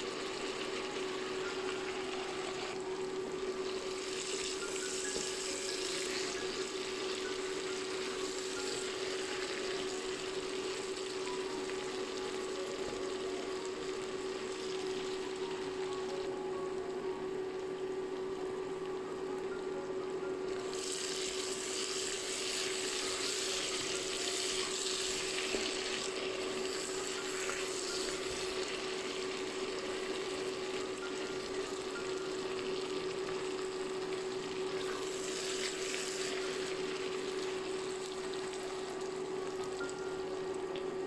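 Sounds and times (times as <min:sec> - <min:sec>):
food sizzling in oil: 0:00.0 - 0:19.1, 0:20.4 - 0:41.0.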